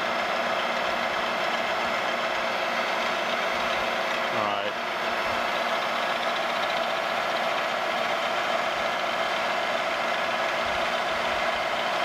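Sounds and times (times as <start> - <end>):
milling machine spindle running: 0.0 - 12.0.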